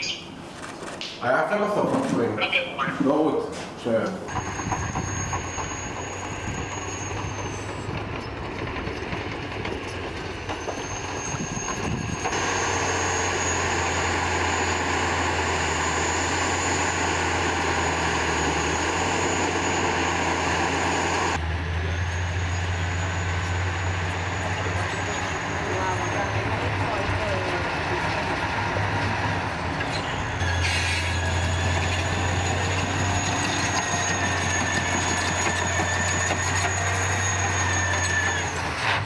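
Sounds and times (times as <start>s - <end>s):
bulldozer diesel engine running: 4.3s - 39.0s
bulldozer running gear: 4.3s - 39.0s.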